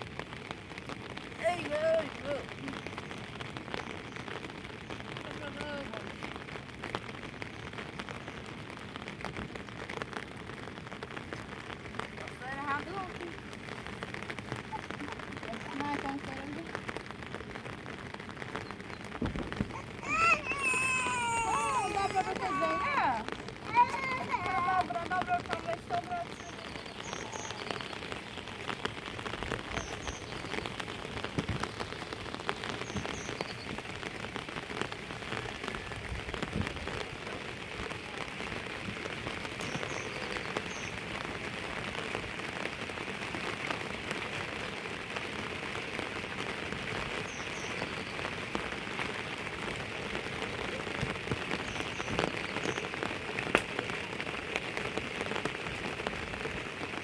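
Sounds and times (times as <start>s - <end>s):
close raindrops ticking: 0.0s - 57.0s
steady rain: 0.0s - 57.0s.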